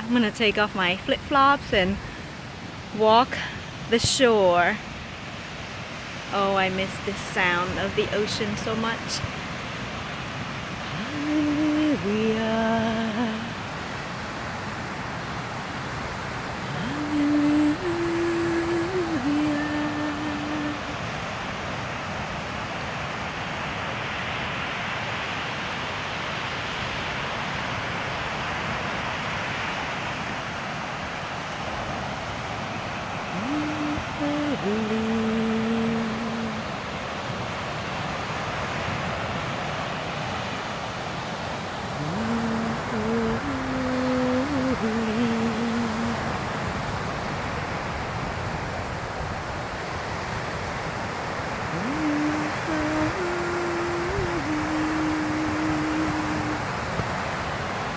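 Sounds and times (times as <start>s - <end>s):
ocean waves breaking on sand: 0.0s - 57.9s.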